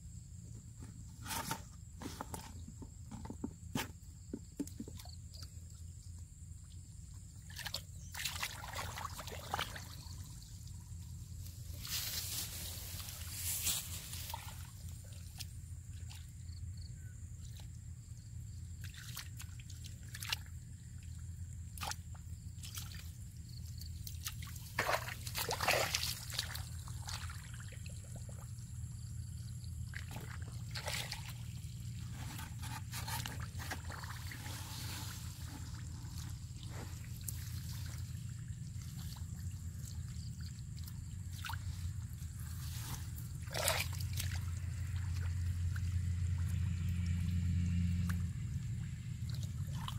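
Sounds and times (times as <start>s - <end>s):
splashing in muddy water: 7.2s - 11.2s, 11.8s - 49.9s
mud squelching: 7.4s - 16.4s, 18.7s - 49.9s.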